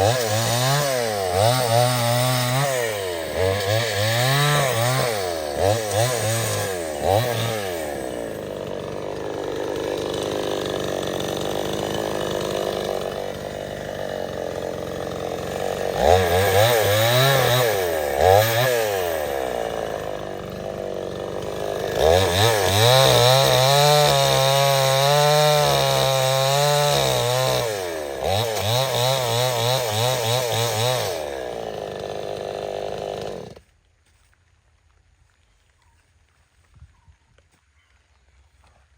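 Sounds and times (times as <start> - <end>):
chainsaw cutting wood: 0.0 - 33.8.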